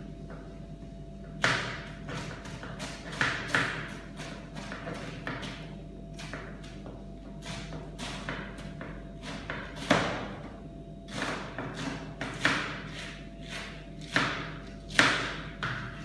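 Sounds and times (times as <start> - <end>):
knife chopping cabbage on board: 1.4 - 10.4, 11.1 - 16.0.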